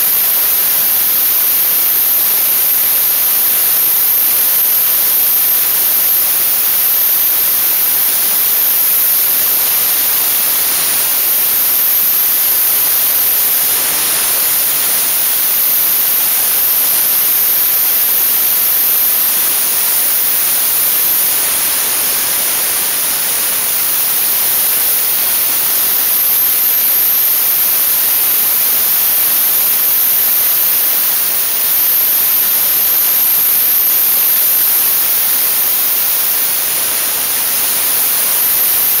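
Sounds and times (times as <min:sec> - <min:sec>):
dry-ice blasting nozzle hiss: 0:00.0 - 0:39.0.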